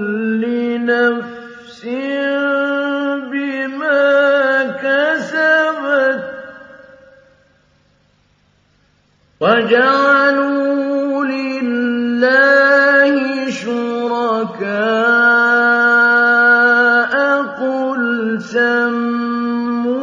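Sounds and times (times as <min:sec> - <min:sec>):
man chanting melodic recitation: 0:00.0 - 0:07.1, 0:09.4 - 0:20.0.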